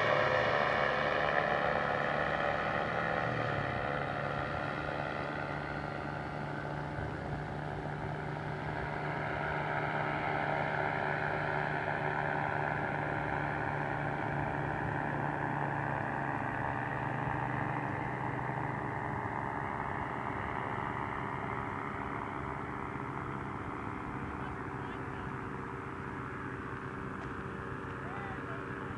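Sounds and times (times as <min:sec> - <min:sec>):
paramotor engine droning: 0:00.0 - 0:28.9.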